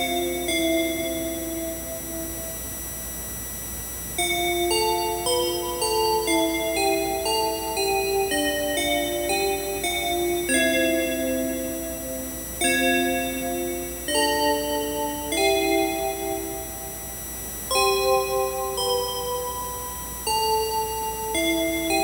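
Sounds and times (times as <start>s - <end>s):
keyboard playing slow chords: 0.0s - 3.2s, 4.2s - 22.0s.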